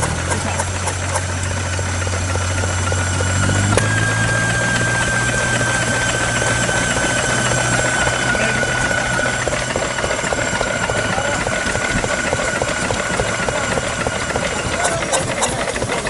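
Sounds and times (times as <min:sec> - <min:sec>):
diesel engine knocking: 0:00.0 - 0:16.0
low hum: 0:00.0 - 0:16.0
high whine: 0:01.9 - 0:15.1.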